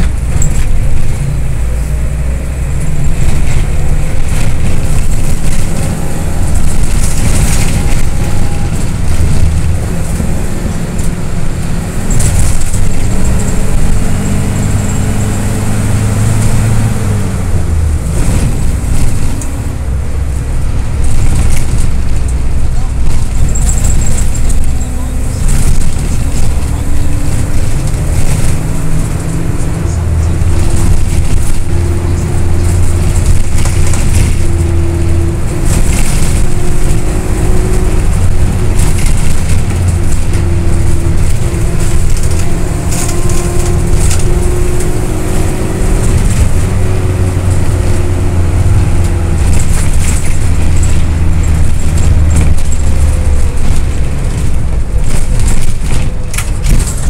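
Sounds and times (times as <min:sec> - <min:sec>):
minibus engine droning: 0:00.0 - 0:57.0.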